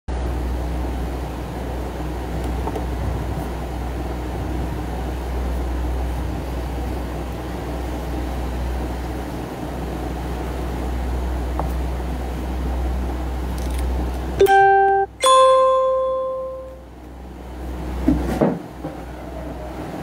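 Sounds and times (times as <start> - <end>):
low hum with rumbling: 0.1 - 20.0.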